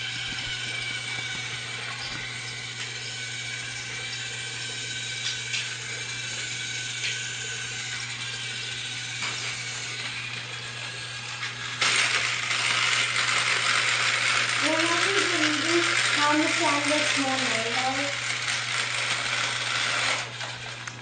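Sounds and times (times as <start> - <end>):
toy train motor whirring: 0.0 - 21.0.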